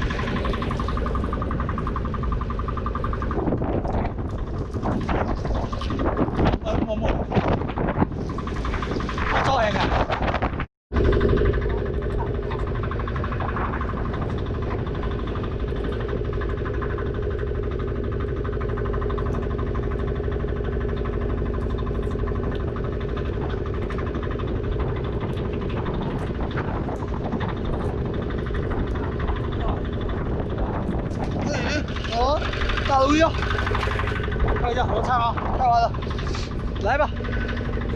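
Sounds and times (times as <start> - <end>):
boat engine humming: 0.0 - 37.9.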